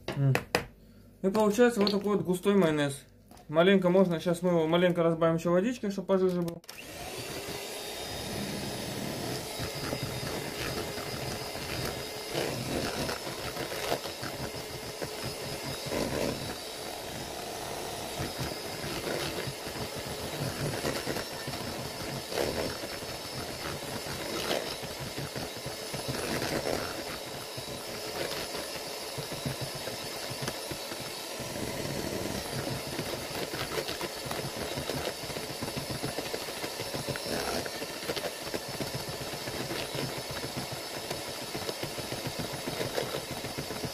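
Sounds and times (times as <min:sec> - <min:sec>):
electric hand mixer whining: 0:06.7 - 0:43.9.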